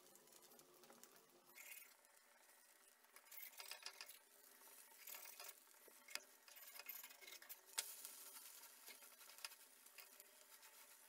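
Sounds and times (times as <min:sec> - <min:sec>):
egg frying in oil: 0:00.0 - 0:11.0.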